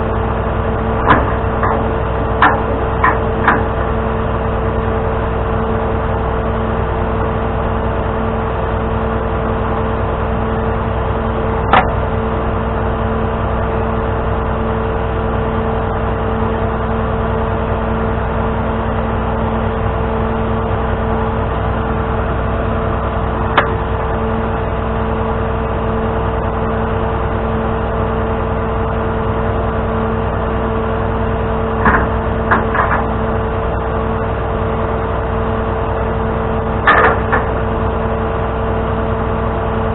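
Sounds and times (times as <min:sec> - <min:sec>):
tow truck engine running: 0:00.0 - 0:39.9.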